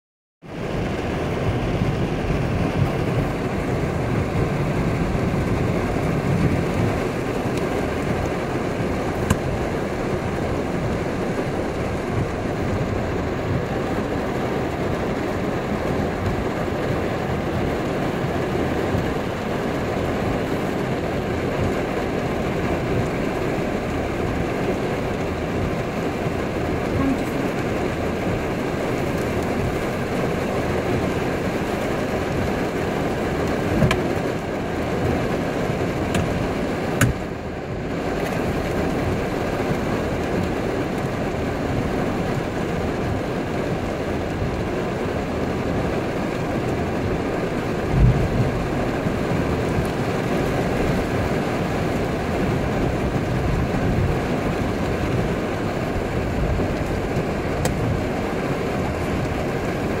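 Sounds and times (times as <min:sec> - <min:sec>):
cars swishing through water: 0:00.4 - 1:00.0
heavy rain on pavement: 0:00.4 - 1:00.0.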